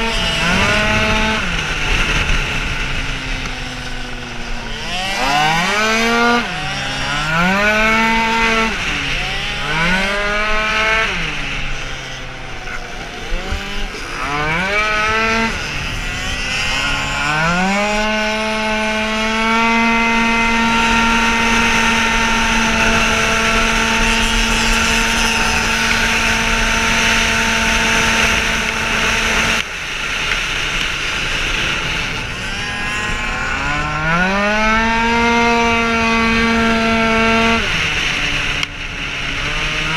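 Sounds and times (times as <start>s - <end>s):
two-stroke scooter engine revving: 0.0s - 39.9s.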